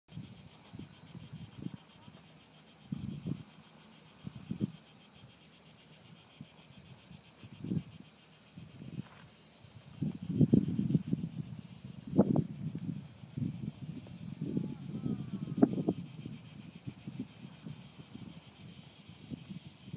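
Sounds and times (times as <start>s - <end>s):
cicadas chorus: 0.1s - 19.9s.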